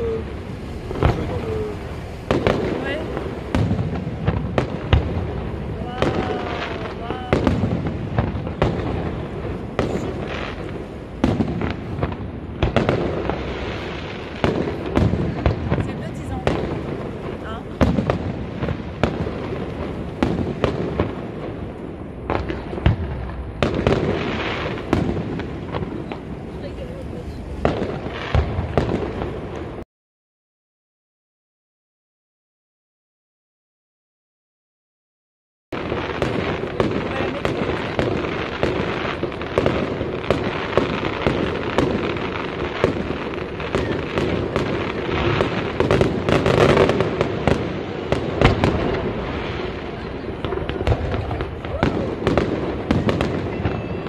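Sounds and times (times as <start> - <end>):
fireworks bangs: 0.0 - 29.8, 35.8 - 54.0.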